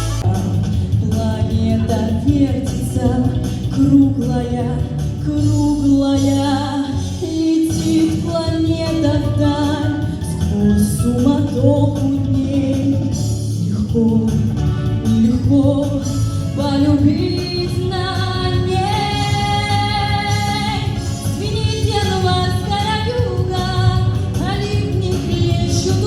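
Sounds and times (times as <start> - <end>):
instrumental backing music: 0.0 - 26.0.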